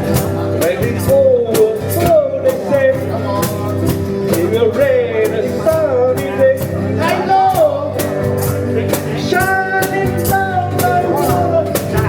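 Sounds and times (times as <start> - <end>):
drum beat: 0.0 - 12.0
person singing: 0.0 - 12.0
strummed guitar chords: 0.0 - 12.0.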